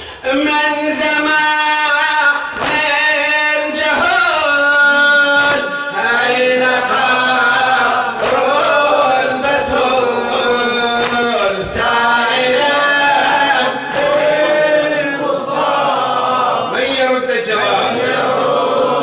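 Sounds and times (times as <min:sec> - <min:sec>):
man chanting into a microphone: 0:00.0 - 0:18.0.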